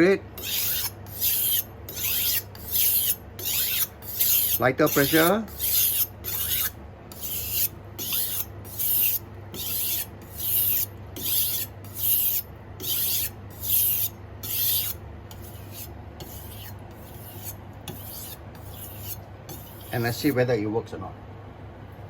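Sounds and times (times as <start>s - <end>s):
knife stroked on whetstone: 0.4s - 20.4s.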